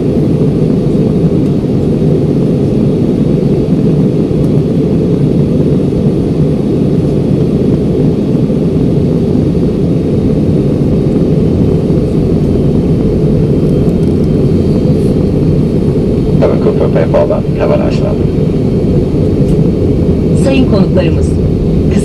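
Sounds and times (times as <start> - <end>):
jet airliner cabin noise: 0.0 - 22.0.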